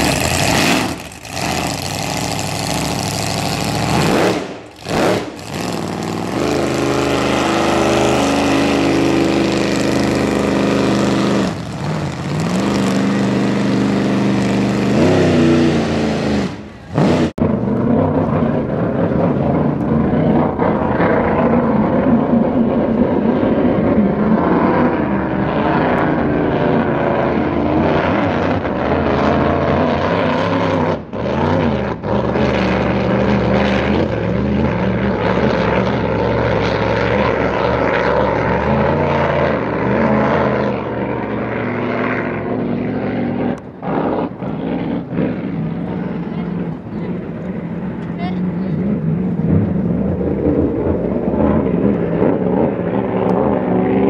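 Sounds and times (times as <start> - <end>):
racing boat engine drone: 0.0 - 54.0.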